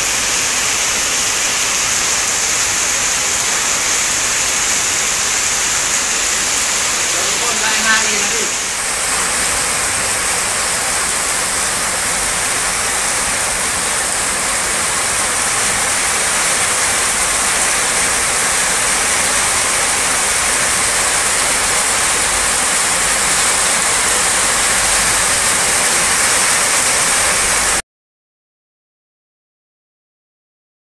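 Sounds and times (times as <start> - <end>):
heavy rain pouring: 0.0 - 27.8.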